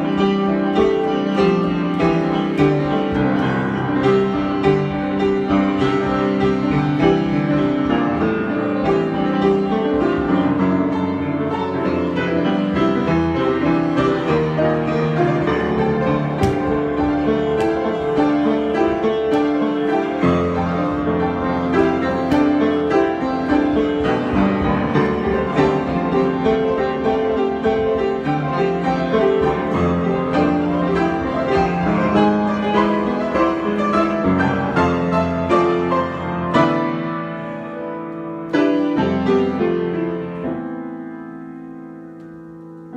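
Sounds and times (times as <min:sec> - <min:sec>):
piano improvisation: 0:00.0 - 0:42.9.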